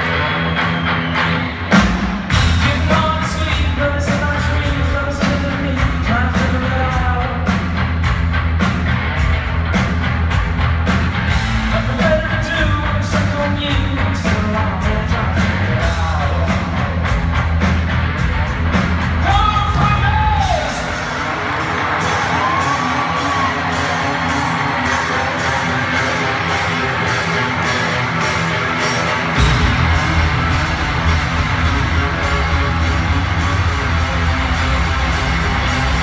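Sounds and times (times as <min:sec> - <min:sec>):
drum kit: 0:00.0 - 0:36.0
distorted bass guitar riff: 0:02.3 - 0:21.9, 0:23.3 - 0:36.0.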